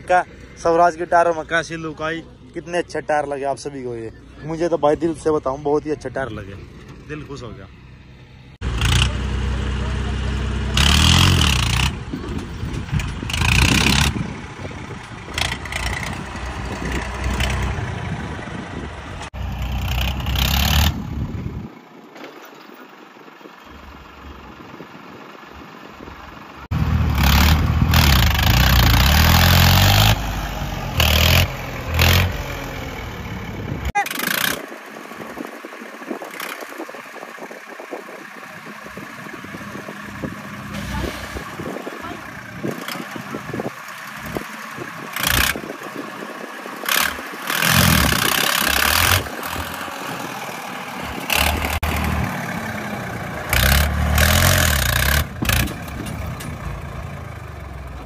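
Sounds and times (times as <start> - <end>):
tractor diesel engine revving: 4.5 - 21.7, 23.8 - 58.0.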